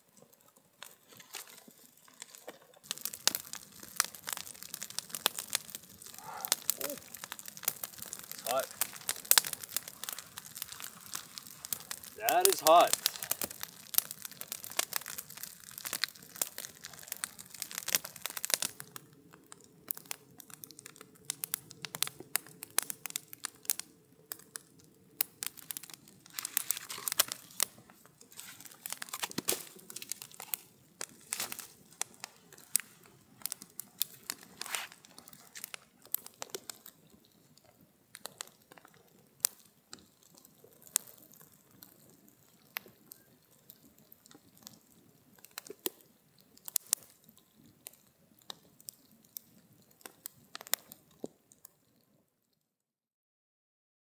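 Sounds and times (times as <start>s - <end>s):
campfire crackling and popping: 0.0s - 52.7s.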